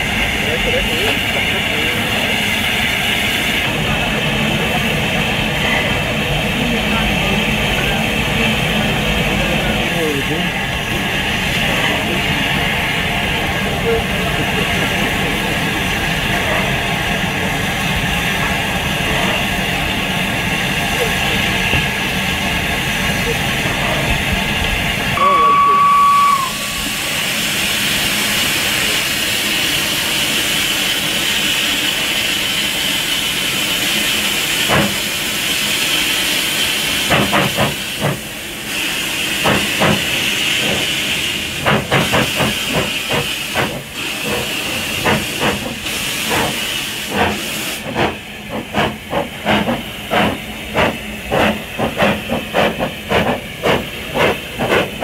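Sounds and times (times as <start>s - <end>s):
steam hissing: 0.0s - 55.0s
steam locomotive exhaust chuffs: 0.0s - 55.0s.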